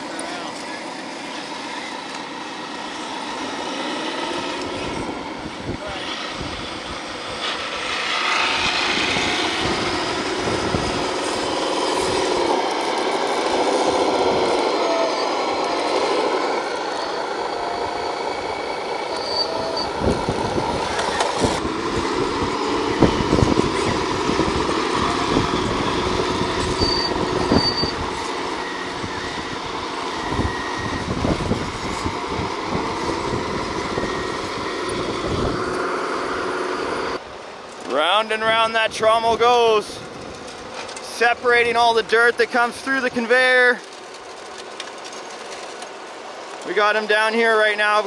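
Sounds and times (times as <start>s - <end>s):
electric motors and gearboxes whining: 0.0s - 48.0s.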